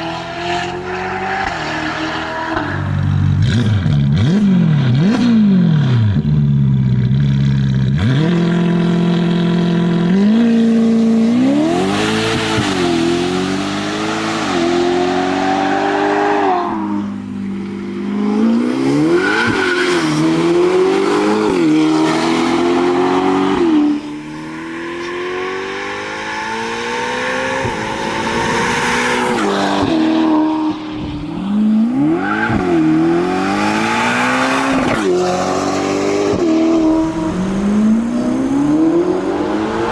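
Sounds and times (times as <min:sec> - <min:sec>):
car engine revving hard: 0:00.0 - 0:06.4, 0:07.9 - 0:17.2, 0:17.9 - 0:39.9.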